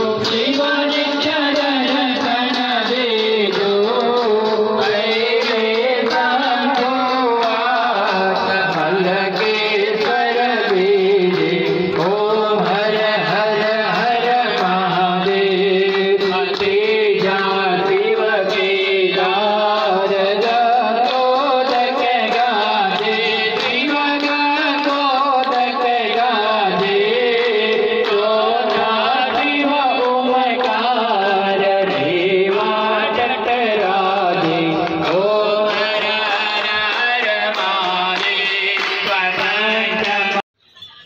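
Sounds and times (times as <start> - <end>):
group singing devotional song: 0.0 - 40.4
hands clapping: 0.1 - 40.5.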